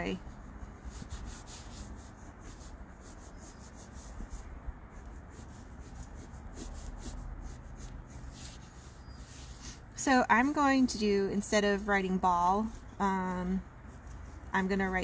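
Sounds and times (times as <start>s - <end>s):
colored pencil shading on paper: 0.0s - 15.0s.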